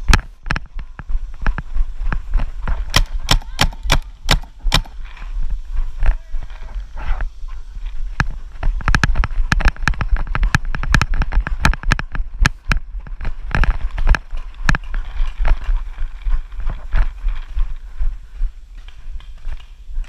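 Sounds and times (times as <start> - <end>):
running footsteps on grass: 0.0 - 20.0.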